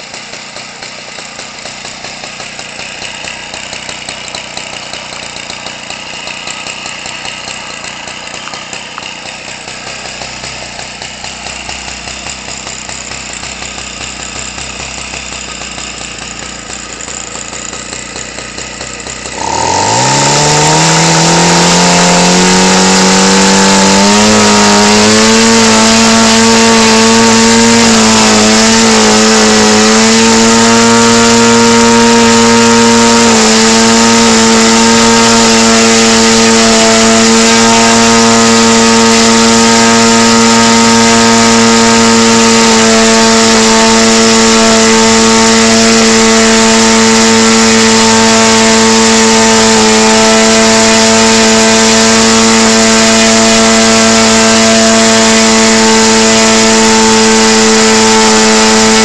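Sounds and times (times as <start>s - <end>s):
model aircraft engine running: 0.0s - 59.0s.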